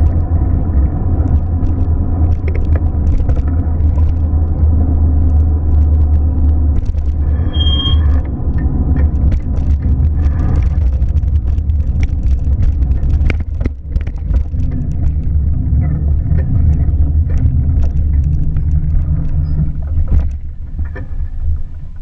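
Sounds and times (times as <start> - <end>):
car rumble: 0.0 - 22.0.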